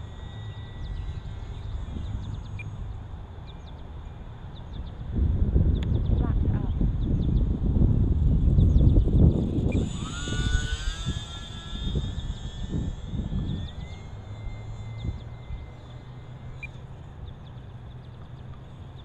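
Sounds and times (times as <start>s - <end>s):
rc plane motor whining: 0.0s - 6.1s, 6.8s - 19.0s
wind rumble on microphone: 0.8s - 19.0s.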